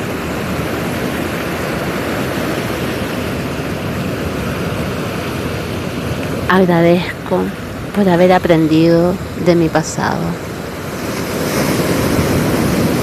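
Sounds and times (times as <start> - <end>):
ocean waves washing on beach: 0.0 - 13.0.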